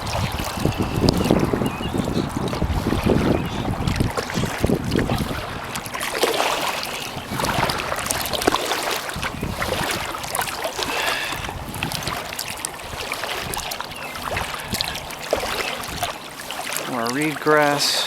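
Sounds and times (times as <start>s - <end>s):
paddle splashing in water: 0.0s - 18.0s
water trickling: 0.0s - 18.0s.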